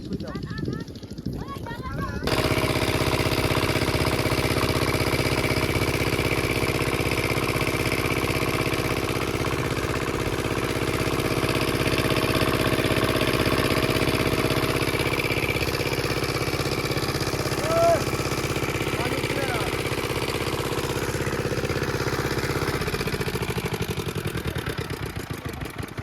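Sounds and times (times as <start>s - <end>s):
small engine running steadily: 0.0s - 26.0s.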